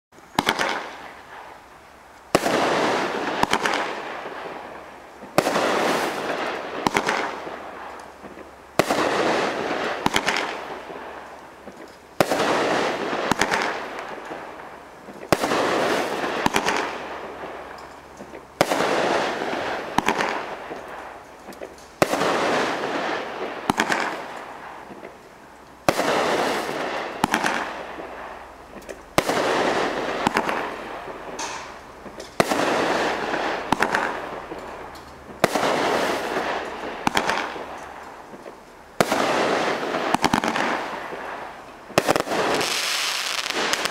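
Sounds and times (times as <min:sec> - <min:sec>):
firework crackling: 0:00.2 - 0:43.9
firework shots banging: 0:00.3 - 0:01.5, 0:02.3 - 0:25.2, 0:25.8 - 0:43.9.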